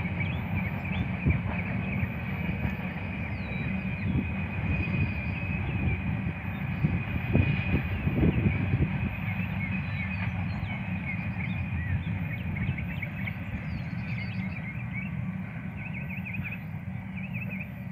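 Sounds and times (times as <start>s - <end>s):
birds chirping: 0.0s - 17.9s
freight train rumbling past: 0.0s - 17.9s.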